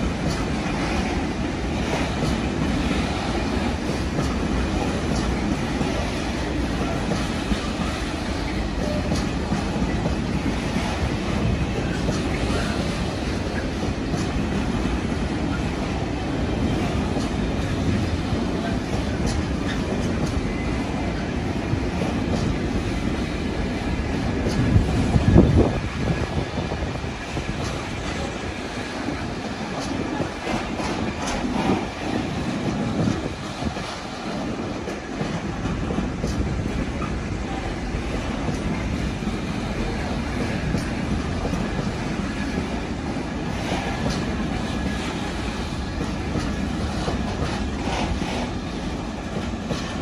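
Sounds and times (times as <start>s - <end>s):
wheels clicking on track: 0.0s - 20.7s, 24.0s - 50.0s
freight train rumbling past: 0.0s - 50.0s.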